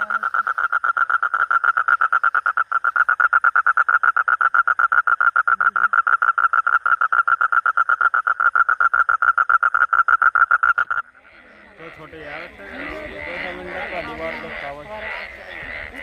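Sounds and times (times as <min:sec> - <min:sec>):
frog croaking in fast pulses: 0:00.0 - 0:16.0.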